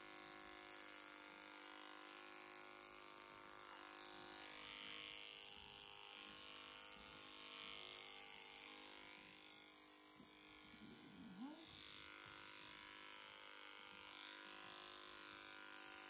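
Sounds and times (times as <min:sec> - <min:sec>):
hair clipper motor humming: 0:00.0 - 0:16.0.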